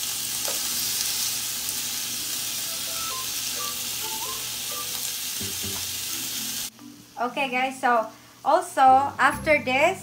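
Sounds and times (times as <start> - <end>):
shrimp sizzling on a grill: 0.0 - 9.0.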